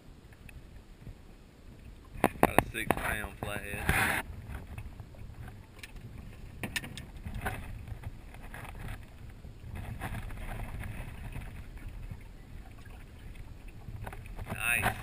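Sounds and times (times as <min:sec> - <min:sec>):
rustle: 0:00.0 - 0:15.0
wind rumbling on microphone: 0:00.0 - 0:15.0.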